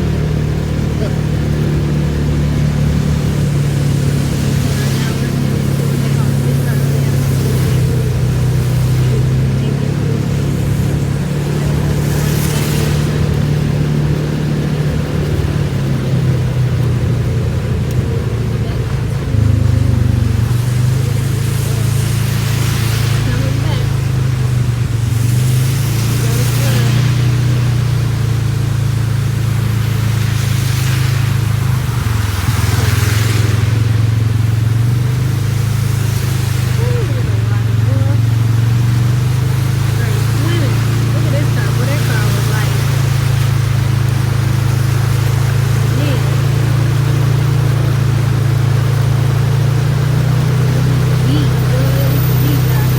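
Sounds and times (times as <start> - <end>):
car engine and road rumble: 0.0 - 52.9
water rushing hiss: 0.0 - 52.9.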